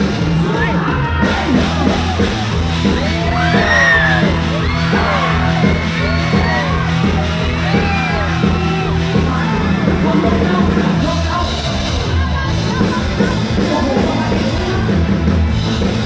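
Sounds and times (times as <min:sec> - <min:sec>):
bass line: 0:00.0 - 0:16.0
live band music: 0:00.0 - 0:16.0.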